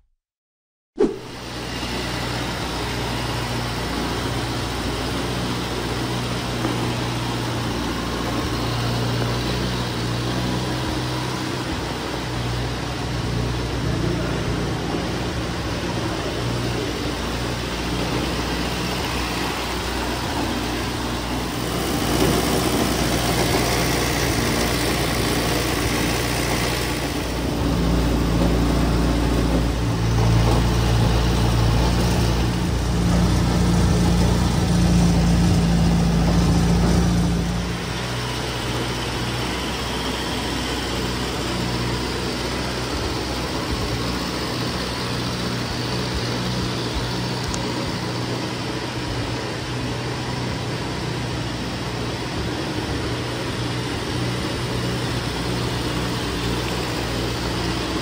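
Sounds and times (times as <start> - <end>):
small car engine idling: 1.2 - 58.0.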